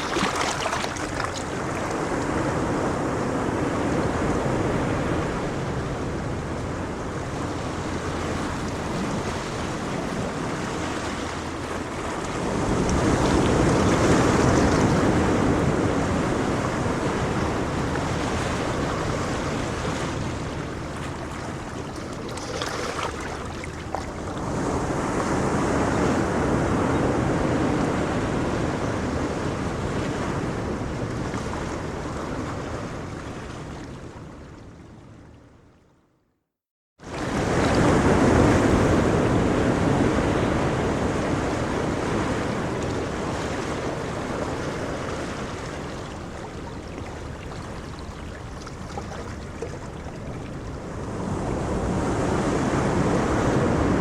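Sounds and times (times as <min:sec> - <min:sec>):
wind on microphone: 0:00.0 - 0:34.6, 0:37.1 - 0:54.0
ocean waves breaking on shore: 0:00.0 - 0:35.6, 0:37.0 - 0:54.0.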